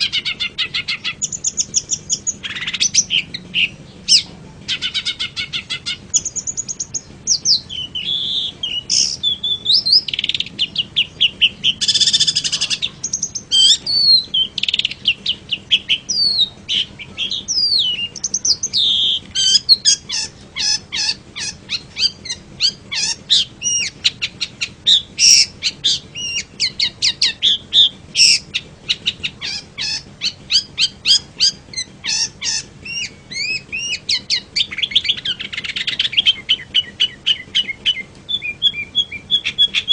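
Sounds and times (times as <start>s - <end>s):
shrike singing chirps and whistles: 0.0s - 39.9s.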